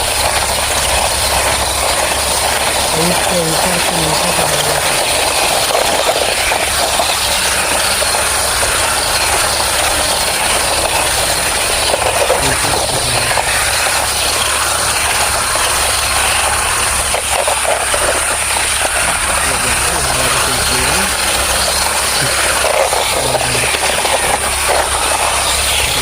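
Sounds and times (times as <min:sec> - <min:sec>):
toy cars rattling whirr: 0:00.0 - 0:26.0.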